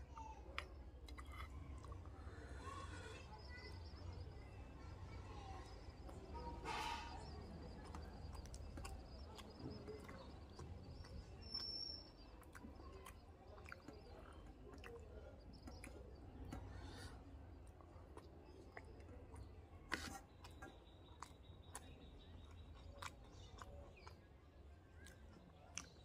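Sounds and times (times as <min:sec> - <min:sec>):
man chewing food: 0:00.0 - 0:26.0.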